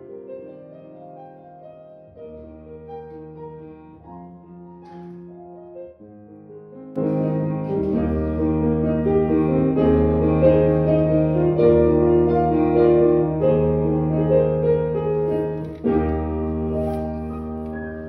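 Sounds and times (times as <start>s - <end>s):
keyboard music with piano melody: 0.0s - 18.0s.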